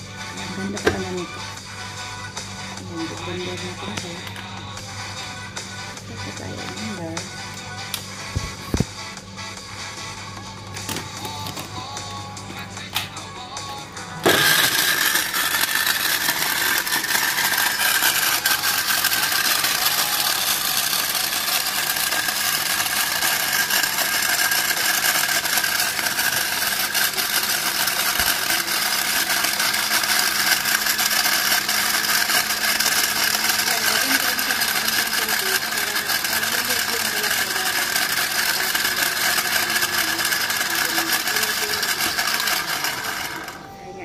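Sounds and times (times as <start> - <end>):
blender running: 0.0 - 8.9, 13.8 - 43.8.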